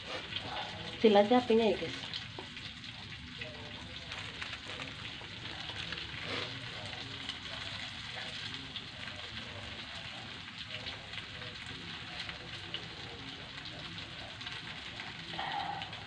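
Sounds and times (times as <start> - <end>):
faint crackles: 0.0 - 16.0
noodles sizzling in a wok: 0.0 - 16.0.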